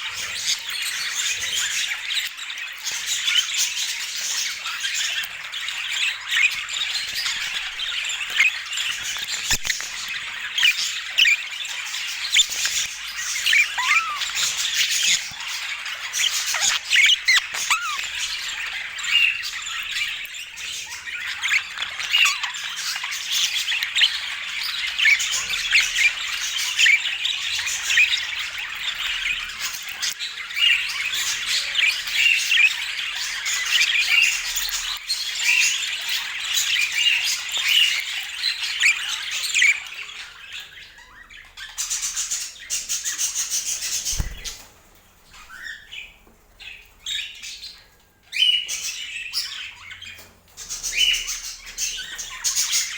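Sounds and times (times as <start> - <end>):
budgerigars chattering and chirping: 0.0 - 52.9.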